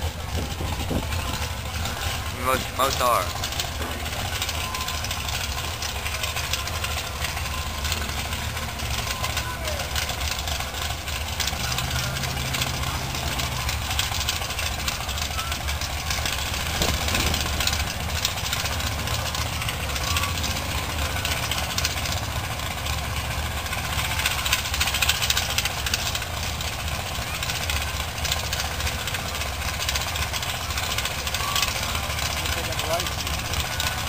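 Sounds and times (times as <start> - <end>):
race car engine idling: 0.0 - 34.0.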